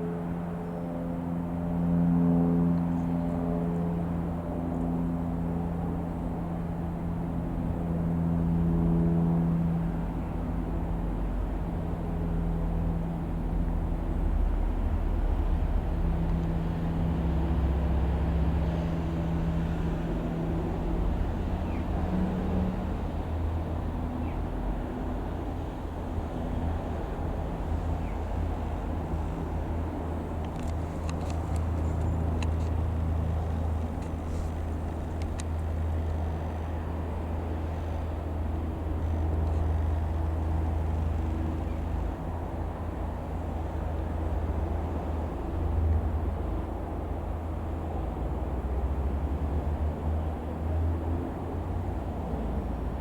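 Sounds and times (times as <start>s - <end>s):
low outdoor rumble: 0.0s - 53.0s
propeller aircraft droning: 0.0s - 53.0s.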